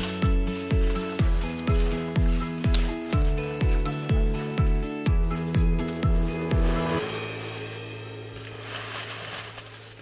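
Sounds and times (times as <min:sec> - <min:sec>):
electronic kick drum beat: 0:00.2 - 0:08.3.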